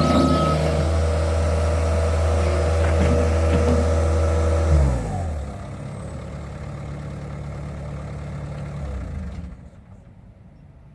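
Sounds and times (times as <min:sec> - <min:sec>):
diesel engine revving down to idle: 0:00.0 - 0:09.9.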